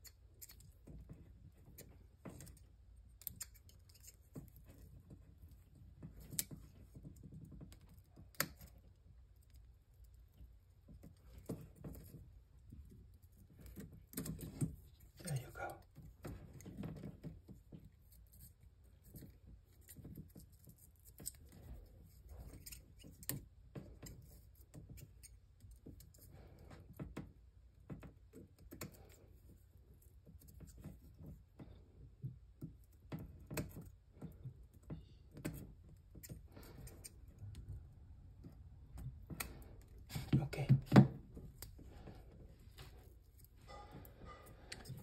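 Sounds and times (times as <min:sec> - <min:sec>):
wire handling noises: 0:00.0 - 0:45.0.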